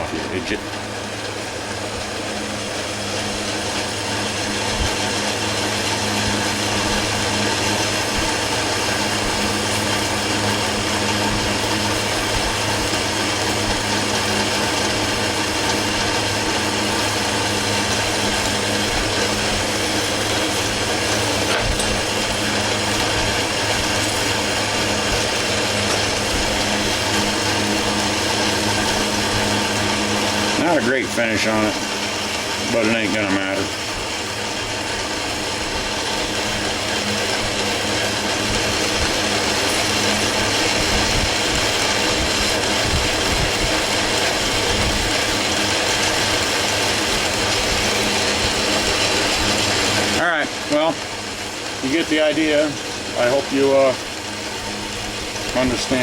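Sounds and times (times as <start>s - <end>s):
metal lathe cutting metal: 0.0s - 56.0s.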